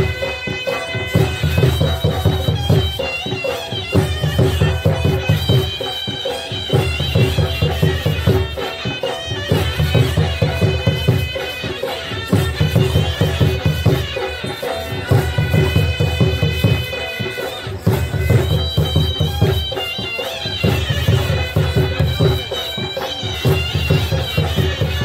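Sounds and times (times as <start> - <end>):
heavy drumbeats: 0.0 - 25.0
reed pipe melody: 0.0 - 25.0.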